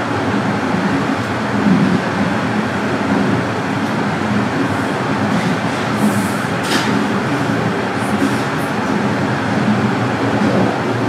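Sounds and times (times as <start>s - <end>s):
subway car rail rumble: 0.0s - 11.0s.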